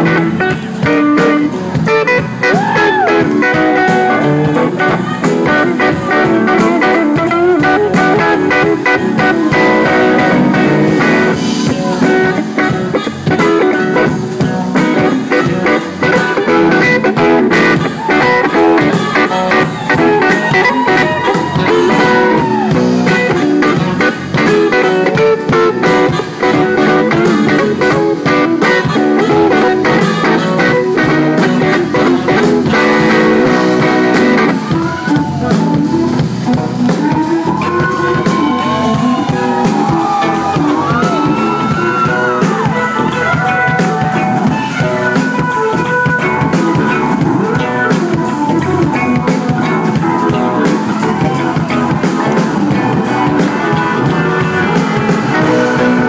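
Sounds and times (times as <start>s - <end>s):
bass guitar: 0.0s - 56.0s
electric guitar: 0.0s - 56.0s.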